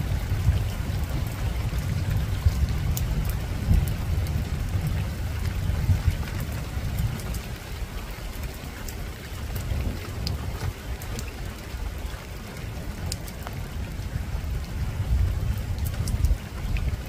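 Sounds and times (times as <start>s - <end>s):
rain on a rooftop: 0.0s - 17.0s
raindrop ticks: 0.0s - 17.0s.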